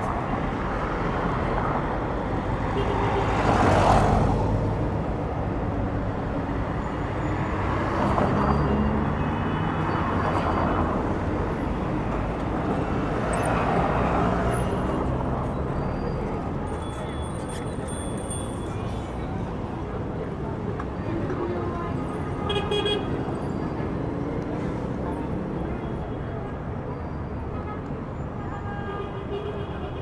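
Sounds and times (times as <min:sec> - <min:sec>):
vehicles passing: 0:00.0 - 0:28.4.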